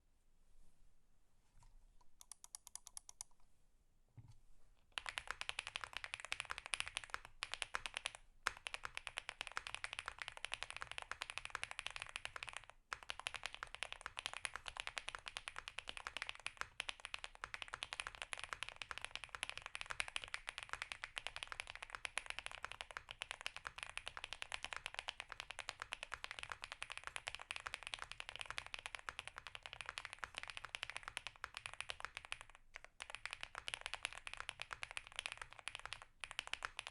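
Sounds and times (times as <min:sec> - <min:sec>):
mechanical keyboard typing: 0:02.2 - 0:03.4, 0:05.0 - 0:36.9.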